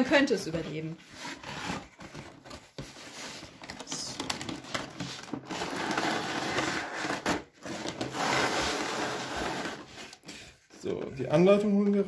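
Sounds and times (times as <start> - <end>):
plastic tray crinkling against cardboard: 1.3 - 11.6.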